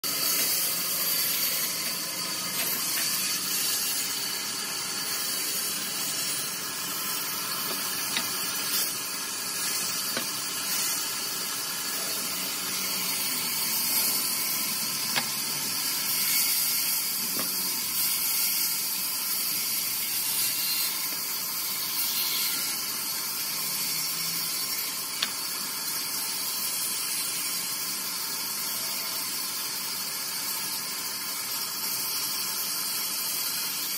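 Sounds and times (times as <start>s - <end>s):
band saw cutting log: 0.0s - 33.9s.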